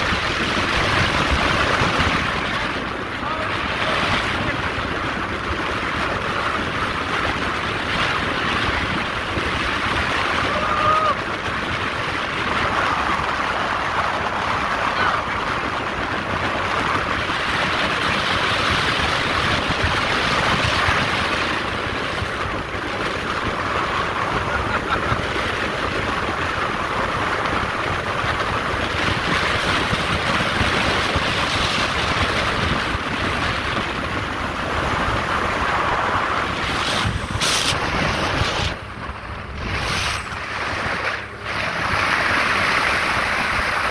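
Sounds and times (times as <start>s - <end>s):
water rushing past hull: 0.0s - 43.9s
wind on microphone: 0.0s - 43.9s.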